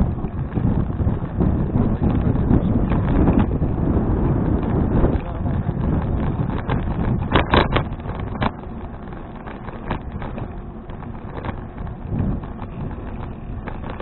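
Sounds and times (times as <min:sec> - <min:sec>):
sharp clicks and rattles: 0:00.0 - 0:14.0
wind buffeting microphone: 0:00.0 - 0:14.0.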